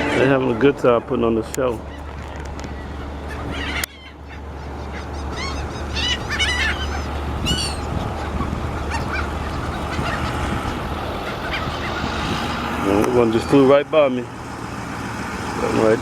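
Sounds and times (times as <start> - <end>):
seagulls calling: 0.0 - 16.0.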